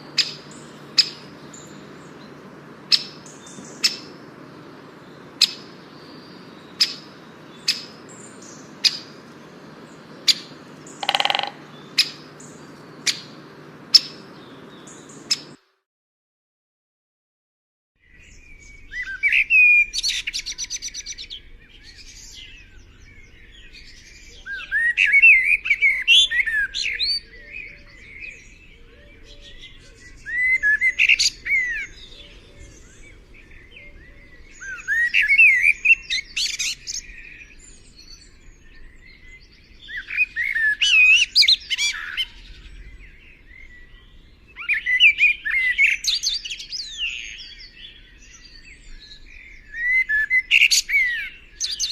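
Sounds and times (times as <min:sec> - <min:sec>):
songbird singing: 0:00.0 - 0:15.7, 0:18.0 - 0:51.9.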